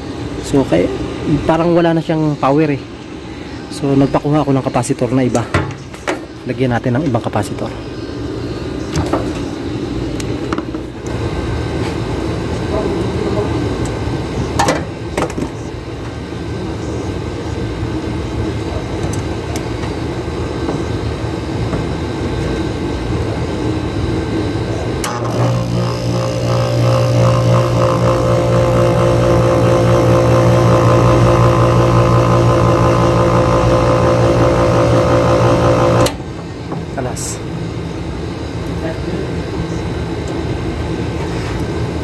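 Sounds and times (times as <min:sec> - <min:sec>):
air conditioner hum: 0:00.0 - 0:42.0.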